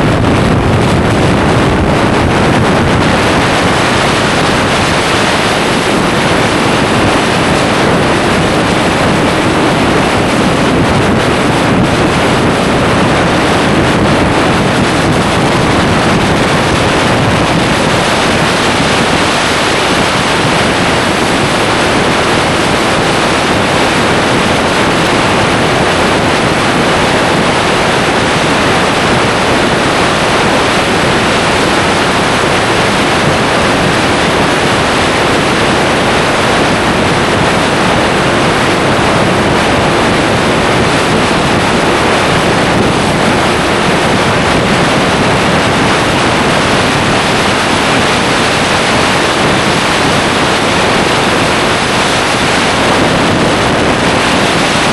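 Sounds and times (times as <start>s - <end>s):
wind rush over microphone: 0.0s - 54.9s.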